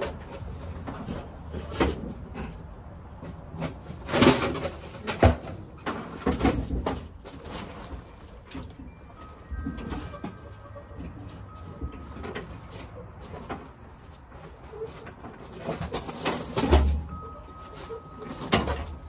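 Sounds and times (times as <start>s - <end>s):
scraping: 0.0s - 19.0s.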